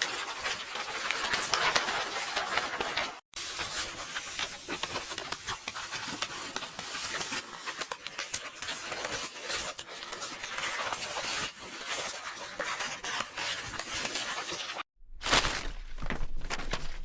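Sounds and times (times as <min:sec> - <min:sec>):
book pages turning: 0:00.0 - 0:17.0.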